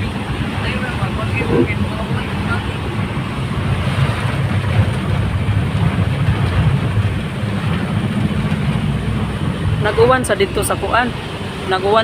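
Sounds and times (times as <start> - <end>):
heavy rain: 0.0 - 12.0
low fluctuating rumble: 0.0 - 12.0
strong wind: 0.0 - 12.0.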